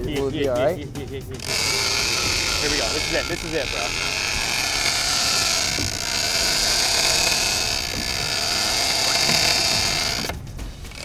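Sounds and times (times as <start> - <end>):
fishing reel drag screaming: 1.4 - 11.0.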